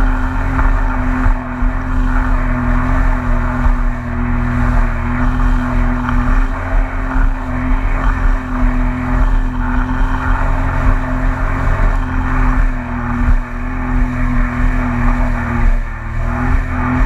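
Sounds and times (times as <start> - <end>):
rushing water and spray: 0.0 - 17.0
watercraft engine running: 0.0 - 17.0.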